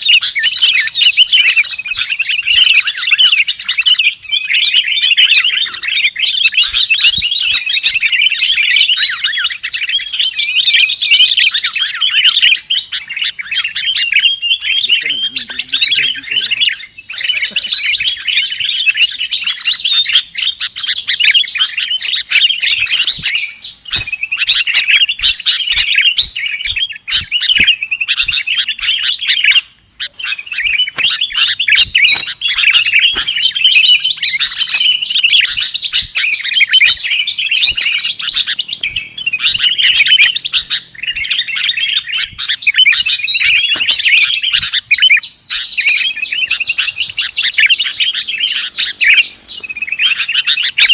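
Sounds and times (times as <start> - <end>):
birds chirping and chattering: 0.0 - 50.9.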